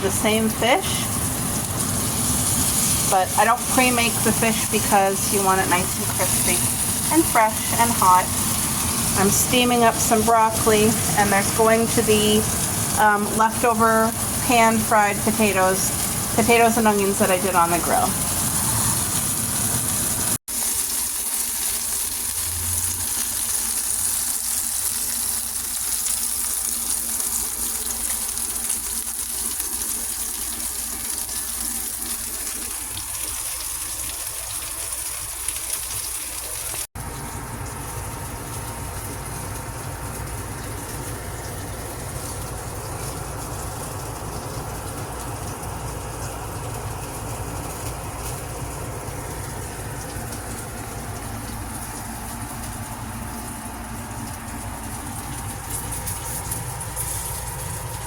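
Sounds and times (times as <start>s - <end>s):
fish frying: 0.0s - 58.0s
vegetables steaming: 0.0s - 58.0s.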